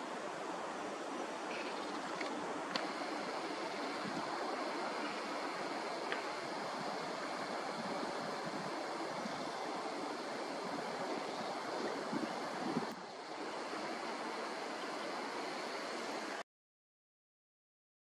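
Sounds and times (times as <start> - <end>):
rushing outdoor ambience: 0.0 - 16.4.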